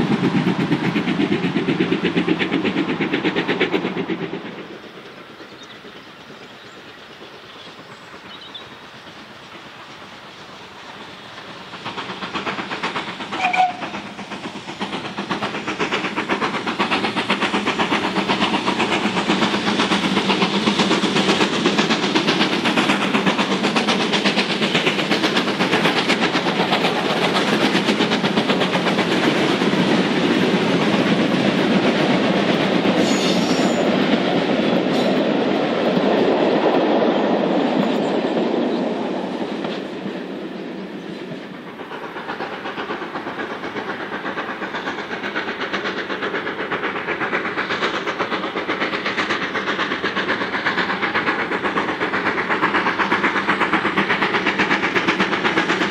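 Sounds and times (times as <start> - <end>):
steam locomotive exhaust beating: 0.0 - 55.9.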